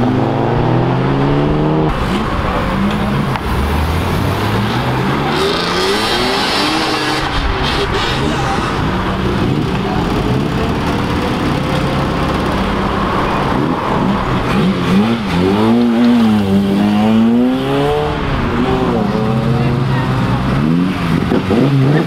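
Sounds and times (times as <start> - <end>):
car engine revving: 0.0 - 22.0
cars idling: 1.9 - 22.0.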